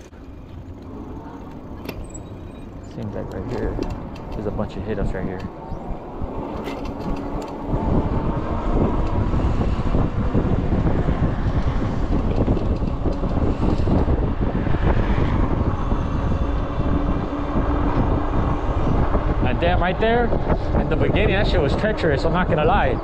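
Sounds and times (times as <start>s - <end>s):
rush of bike riding: 0.0s - 23.0s
wind buffeting microphone: 0.0s - 23.0s.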